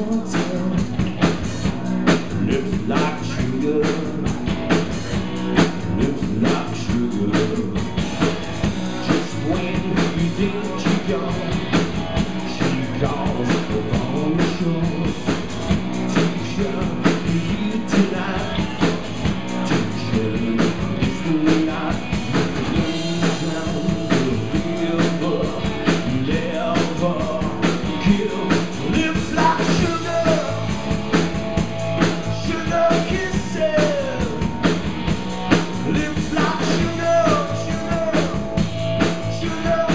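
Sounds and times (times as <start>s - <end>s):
person singing: 0.0s - 4.4s, 5.8s - 7.9s, 8.9s - 11.8s, 12.4s - 15.4s, 16.0s - 19.0s, 19.6s - 30.7s, 32.2s - 34.6s, 35.8s - 39.9s
drum kit rock rhythm: 0.0s - 39.9s
rock band playing live: 0.0s - 39.9s.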